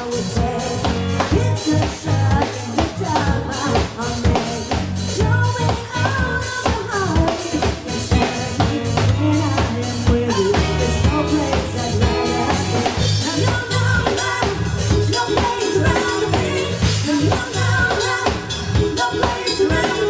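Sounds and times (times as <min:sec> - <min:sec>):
dance music with drum beat: 0:00.0 - 0:20.0.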